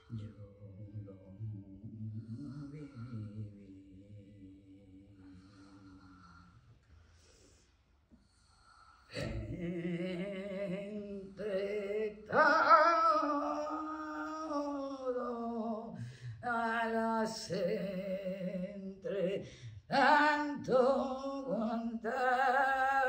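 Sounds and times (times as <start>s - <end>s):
person singing wordlessly: 0.0s - 5.8s, 9.1s - 23.0s.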